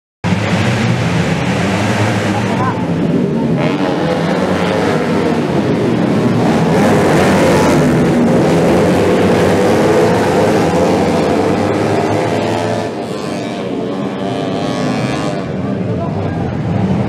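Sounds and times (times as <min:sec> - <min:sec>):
racing motorcycles passing: 0:00.3 - 0:17.0.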